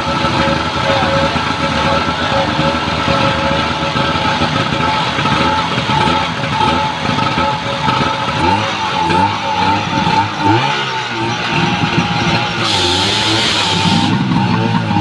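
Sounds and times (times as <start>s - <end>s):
fire pump engine running: 0.0s - 15.0s.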